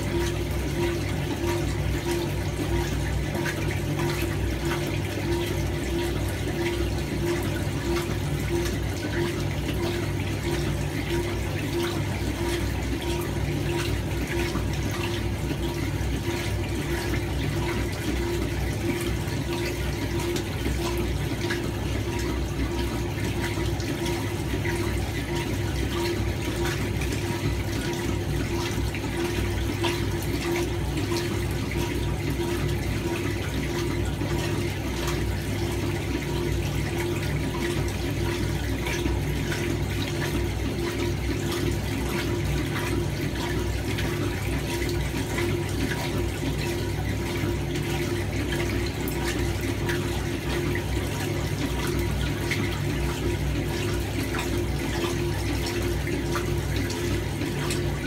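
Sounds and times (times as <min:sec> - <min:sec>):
washer motor hum: 0:00.0 - 0:58.0
water and clothes sloshing: 0:00.0 - 0:58.0.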